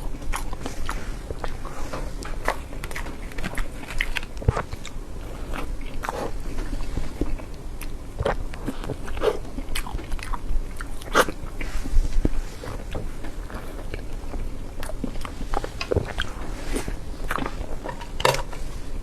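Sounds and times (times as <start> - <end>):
wet chewing and biting: 0.0 - 18.6.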